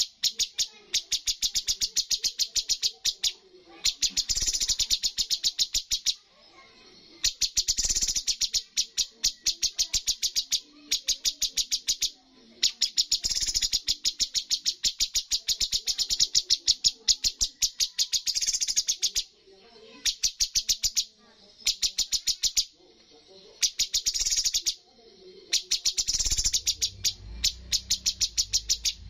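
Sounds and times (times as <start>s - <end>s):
bird singing rapid sharp notes: 0.0s - 22.8s, 23.5s - 29.0s.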